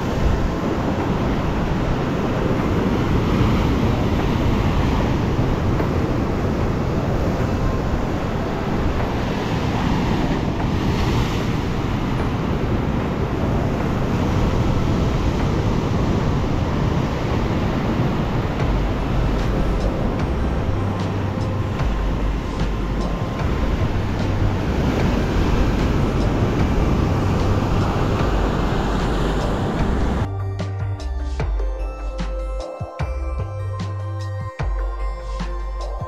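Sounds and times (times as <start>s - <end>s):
sea surf breaking on shore: 0.0s - 30.3s
wind rumbling on microphone: 0.0s - 30.3s.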